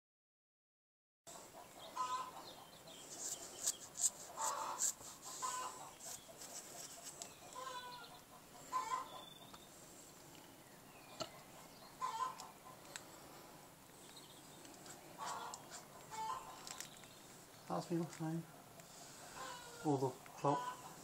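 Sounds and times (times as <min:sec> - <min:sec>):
chickens calling: 0:01.3 - 0:21.0.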